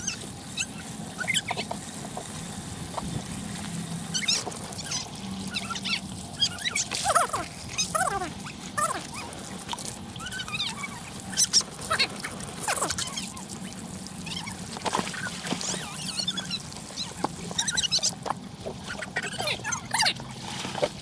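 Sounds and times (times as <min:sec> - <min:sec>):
animal calls: 0:00.0 - 0:01.8, 0:04.1 - 0:20.4
hose water running into steel basin: 0:00.0 - 0:21.0.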